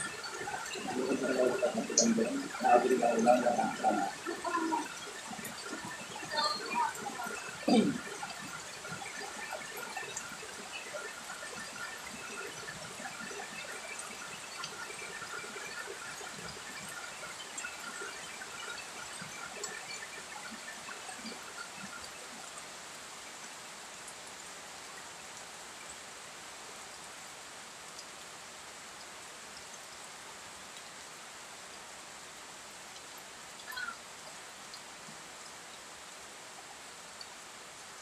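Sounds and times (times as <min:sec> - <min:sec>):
rain falling on plants: 0:00.0 - 0:38.0
runoff pouring from metal roof: 0:00.0 - 0:38.0.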